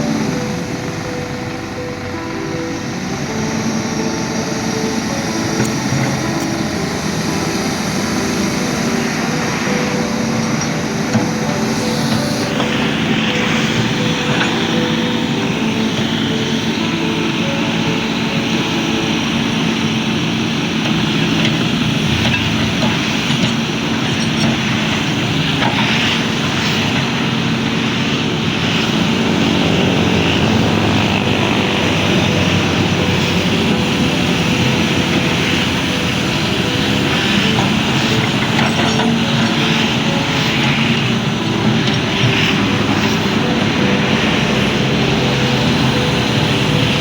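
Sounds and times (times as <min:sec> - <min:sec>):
heavy engine humming: 0:00.0 - 0:47.0
loud rushing noise: 0:00.0 - 0:47.0.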